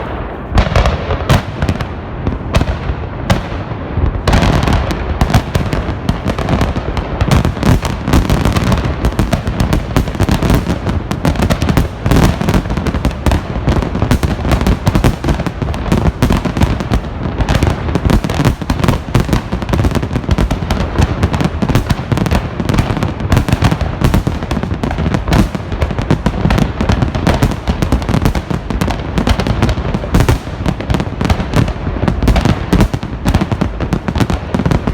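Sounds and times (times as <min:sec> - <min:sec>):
fireworks crackling and popping: 0:00.0 - 0:34.9.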